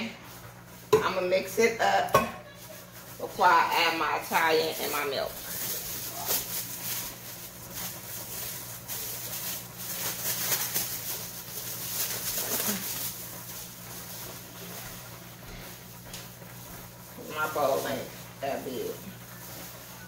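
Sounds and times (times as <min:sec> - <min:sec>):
plastic gloves crinkling: 0:00.0 - 0:20.0.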